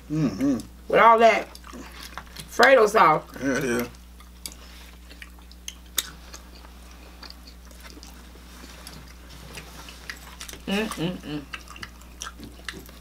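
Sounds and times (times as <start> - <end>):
chewing food: 1.4 - 2.6, 3.3 - 13.0.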